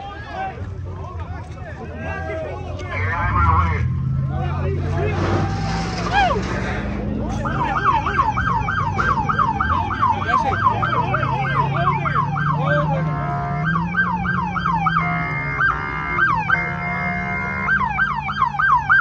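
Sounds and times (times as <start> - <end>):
low engine hum: 0.0 - 19.0
police siren wailing: 2.1 - 6.5, 7.2 - 19.0.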